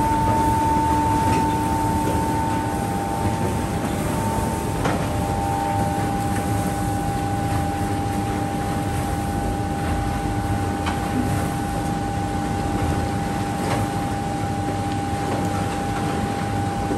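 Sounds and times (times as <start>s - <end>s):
constant mechanical whine: 0.0s - 16.9s.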